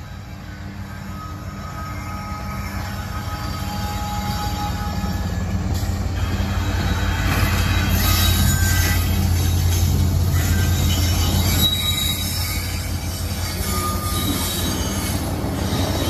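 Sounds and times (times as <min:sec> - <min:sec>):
diesel locomotive engine running: 0:00.0 - 0:16.0
train wheels rolling on rails: 0:00.0 - 0:16.0.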